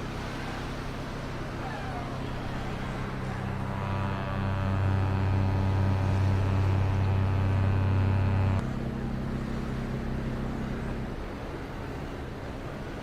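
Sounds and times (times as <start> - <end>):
low steady hum: 0.0 - 13.0
ship horn blast: 0.1 - 13.0.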